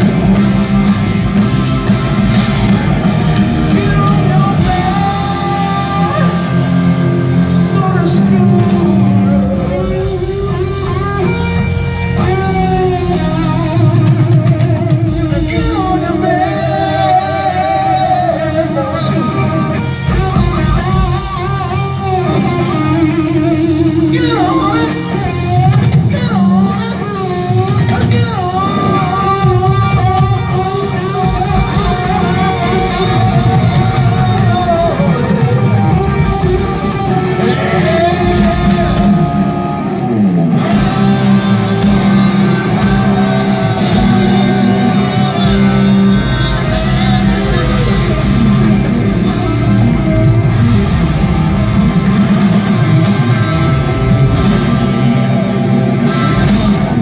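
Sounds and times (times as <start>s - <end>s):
bass and drums: 0.0s - 57.0s
electric guitar: 0.0s - 57.0s
live rock band playing: 0.0s - 57.0s.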